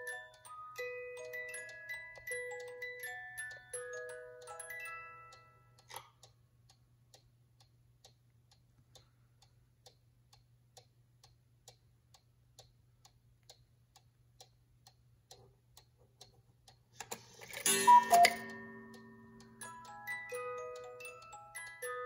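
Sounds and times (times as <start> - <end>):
clock ticking: 0.0 - 22.0.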